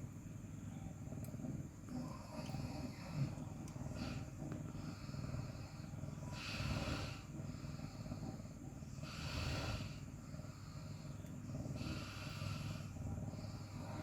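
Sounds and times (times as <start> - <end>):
cat breathing in: 2.0 - 14.0.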